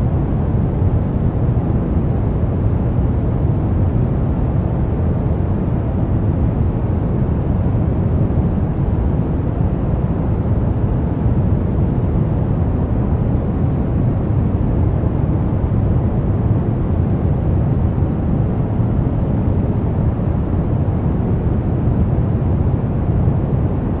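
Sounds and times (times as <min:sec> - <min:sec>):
deep steady rushing noise: 0:00.0 - 0:24.0.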